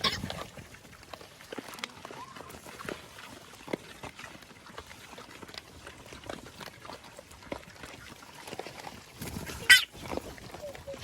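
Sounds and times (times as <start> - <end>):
pigs moving about: 0.0 - 11.0.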